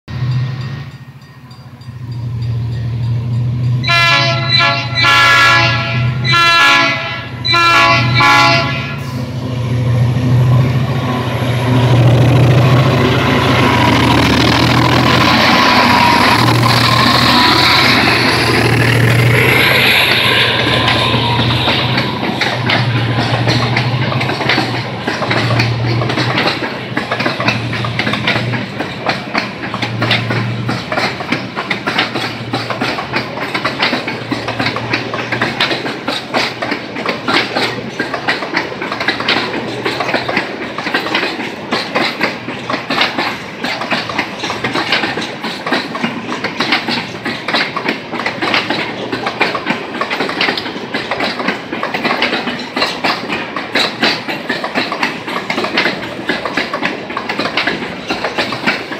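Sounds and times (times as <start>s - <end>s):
train wheels clattering over rails: 0.2s - 58.9s.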